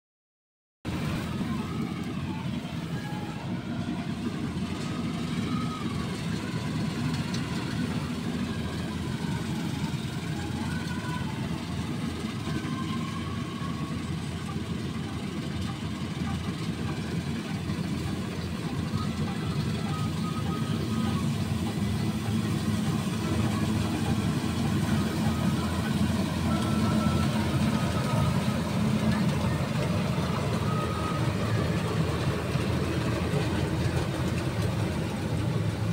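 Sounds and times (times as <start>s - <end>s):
combine harvester running: 0.9s - 35.9s.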